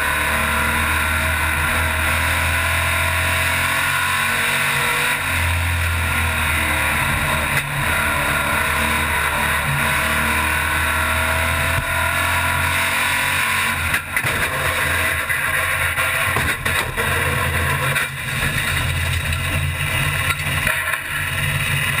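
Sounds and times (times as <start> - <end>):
race car engine at speed: 0.0 - 22.0
wind and road noise: 0.0 - 22.0.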